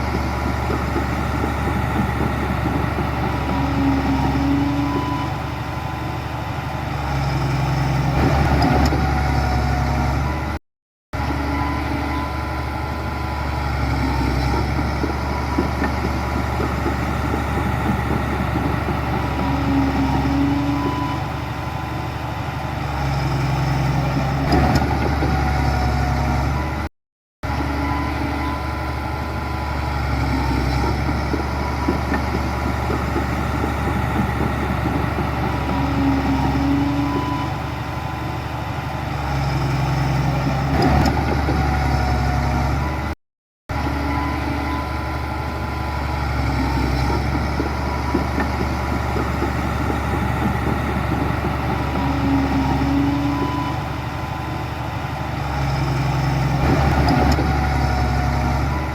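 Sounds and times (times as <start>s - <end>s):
heavy machinery diesel engine: 0.0s - 10.6s, 11.2s - 58.9s.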